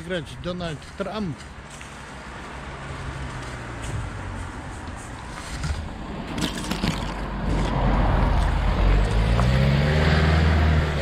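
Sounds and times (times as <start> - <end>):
van engine passing: 2.0 - 11.0.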